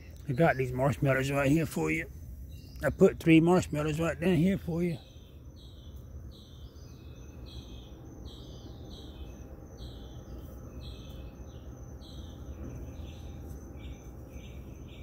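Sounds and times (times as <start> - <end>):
low steady rumble: 0.0 - 15.0
night insects chirping: 0.0 - 15.0.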